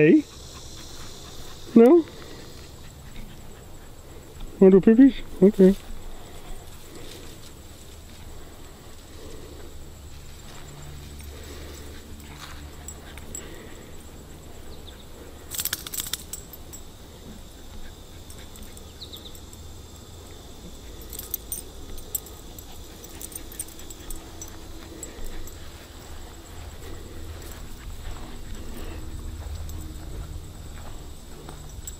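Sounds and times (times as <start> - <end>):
light metallic jingling: 0.0 - 31.9.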